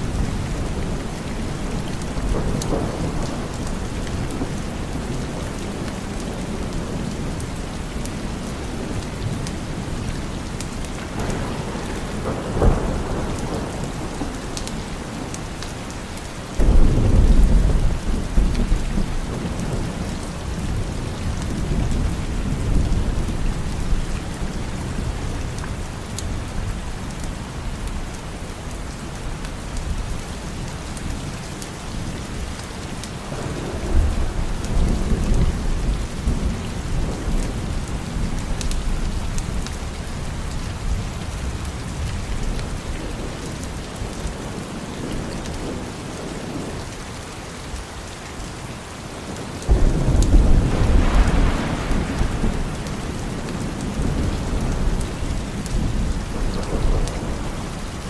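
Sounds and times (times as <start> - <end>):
thunder rumbling: 0.0 - 15.6, 16.6 - 28.1, 33.2 - 46.8, 49.7 - 58.0
steady rain: 0.0 - 58.0.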